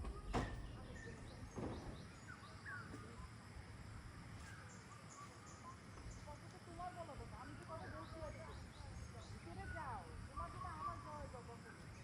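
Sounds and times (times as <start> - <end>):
birds chirping: 0.0 - 12.0
faint outdoor hiss: 0.0 - 12.0.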